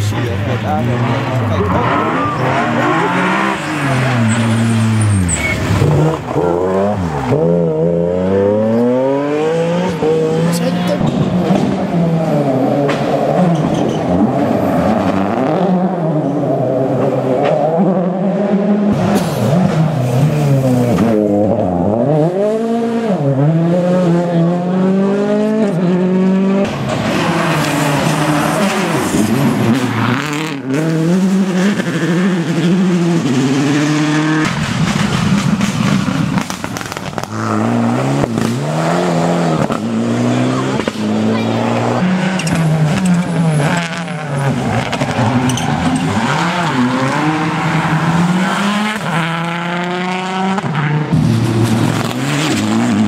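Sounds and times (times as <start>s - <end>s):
rally car engines revving: 0.0s - 53.0s
tyre and road noise: 0.0s - 53.0s.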